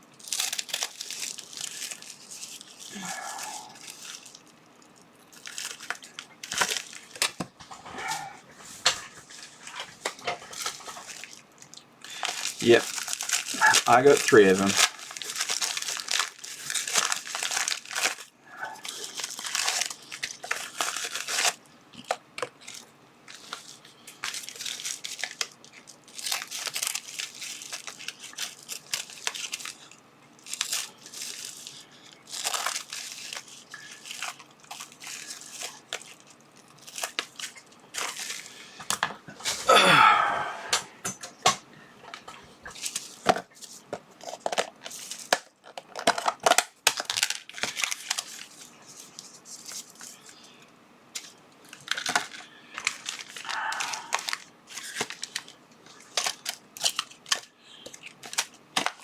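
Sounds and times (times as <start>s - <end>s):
packaging crinkling and tearing: 0.1s - 40.5s, 42.0s - 50.5s, 51.1s - 59.0s.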